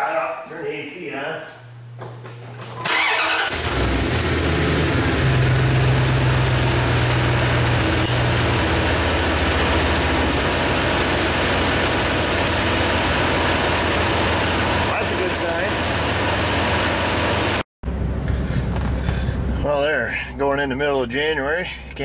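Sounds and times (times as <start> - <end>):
truck engine starting and idling: 2.8 - 21.0.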